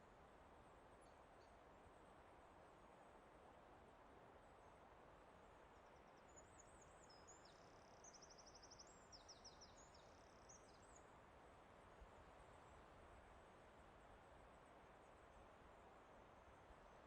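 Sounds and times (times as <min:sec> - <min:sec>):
forest ambience hiss: 0:00.0 - 0:17.0.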